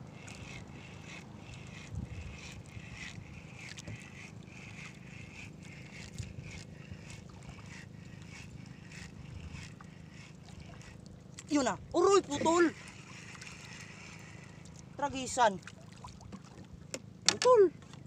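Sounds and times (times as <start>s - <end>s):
spinning reel whirring: 0.0s - 15.6s
wind and water rumble: 0.0s - 18.0s.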